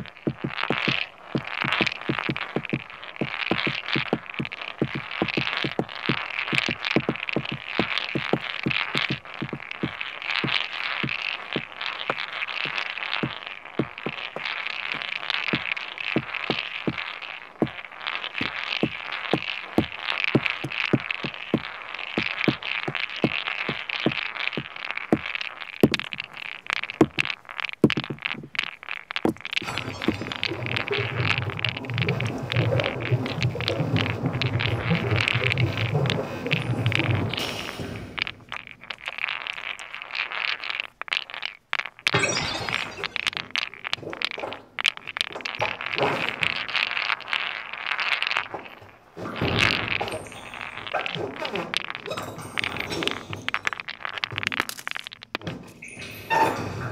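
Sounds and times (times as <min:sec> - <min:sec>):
pebbles clicking and knocking: 0:00.0 - 0:56.8.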